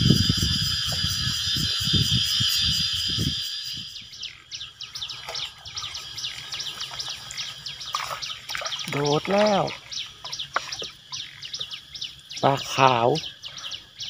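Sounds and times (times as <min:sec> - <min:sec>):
birds chirping: 0:00.0 - 0:14.0
insects droning: 0:00.0 - 0:14.0.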